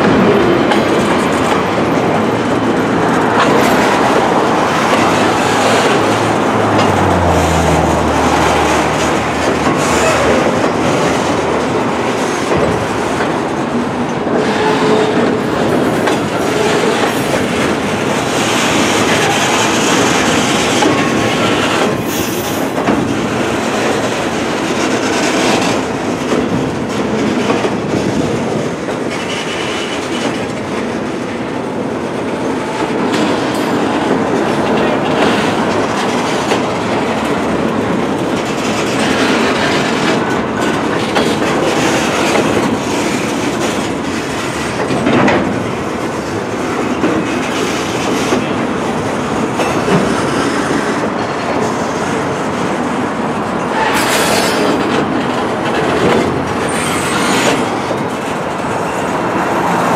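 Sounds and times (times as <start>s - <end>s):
freight train wheels clattering on rails: 0.0s - 59.9s.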